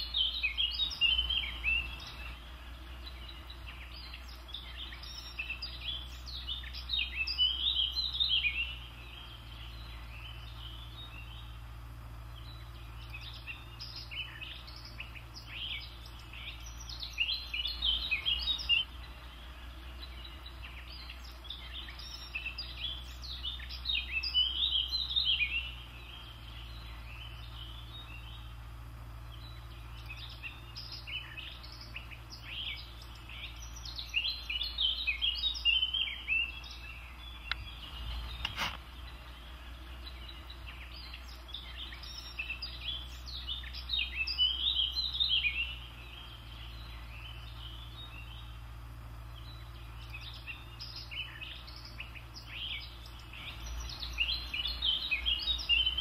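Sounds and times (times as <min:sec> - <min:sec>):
songbird chirping and trilling: 0:00.0 - 0:56.0
steady low hum: 0:00.0 - 0:56.0.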